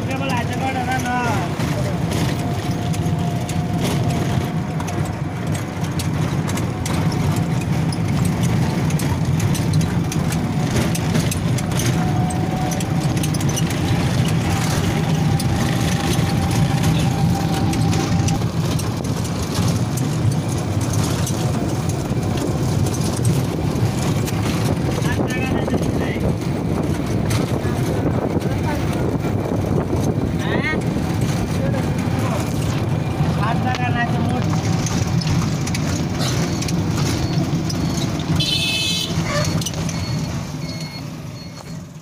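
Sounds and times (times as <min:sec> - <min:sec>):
vehicle engine and road rumble: 0:00.0 - 0:42.0.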